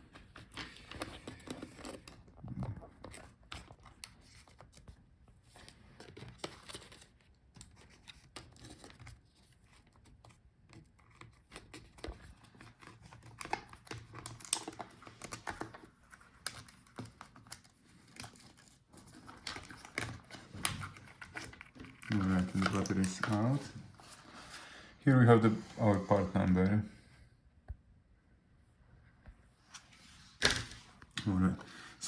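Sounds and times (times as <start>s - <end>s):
cables being handled: 0.0s - 26.9s.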